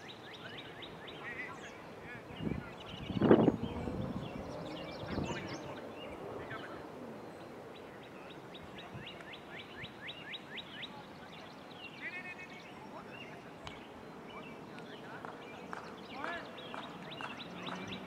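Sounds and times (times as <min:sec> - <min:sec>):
bird chirps: 0:00.0 - 0:18.0
bird singing descending notes: 0:00.0 - 0:18.0
outdoor background noise: 0:00.0 - 0:18.0.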